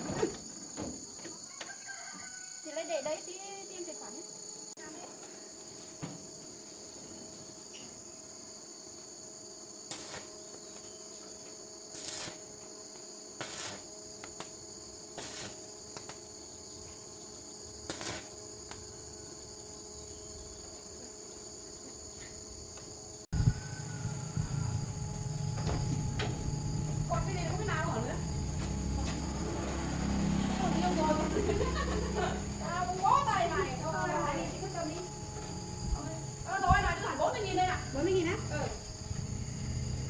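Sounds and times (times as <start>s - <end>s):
insects chorus: 0.0s - 40.0s.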